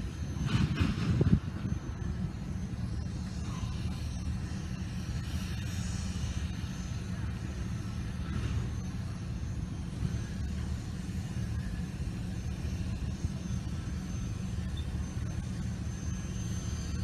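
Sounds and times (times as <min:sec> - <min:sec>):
steam locomotive rumbling: 0:00.0 - 0:17.0.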